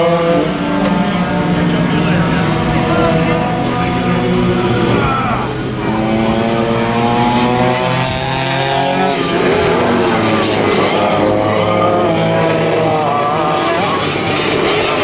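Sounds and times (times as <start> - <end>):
go-kart engines racing: 0.0 - 15.0
go-kart passing by: 0.0 - 15.0.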